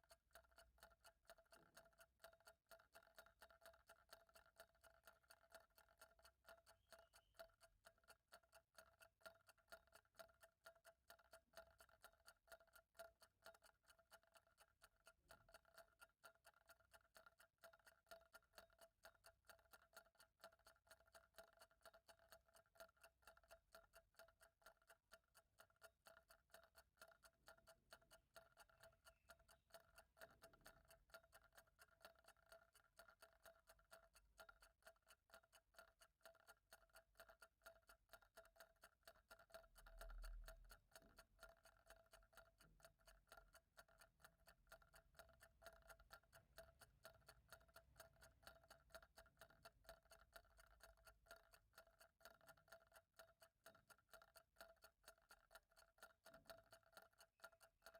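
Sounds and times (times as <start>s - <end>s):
clock ticking: 0.0s - 57.9s.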